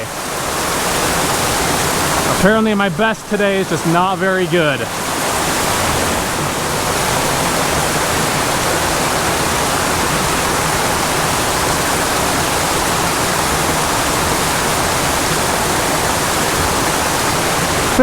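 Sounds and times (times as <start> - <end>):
mountain creek rushing: 0.0 - 18.0.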